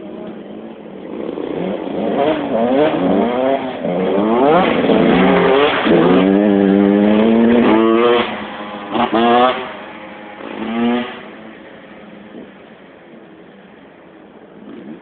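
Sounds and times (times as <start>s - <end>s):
motocross bike accelerating: 0.0s - 15.0s.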